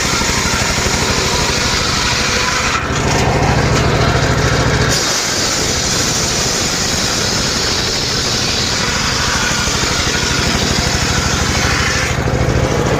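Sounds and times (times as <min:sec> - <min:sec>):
engine chugging: 0:00.0 - 0:12.9
saw blade cutting log: 0:00.0 - 0:12.9.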